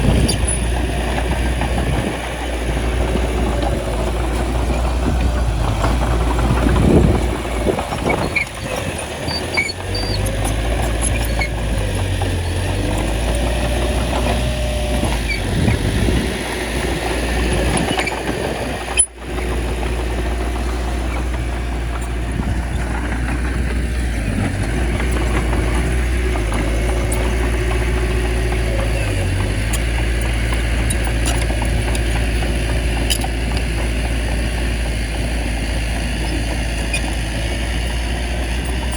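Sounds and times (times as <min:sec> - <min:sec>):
bulldozer diesel engine humming: 0:00.0 - 0:38.9.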